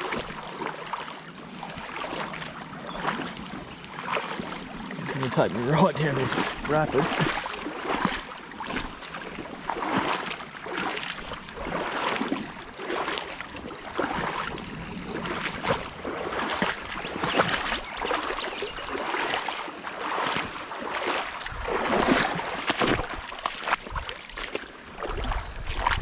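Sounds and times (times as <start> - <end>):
feet wading and splashing: 0.0 - 26.0.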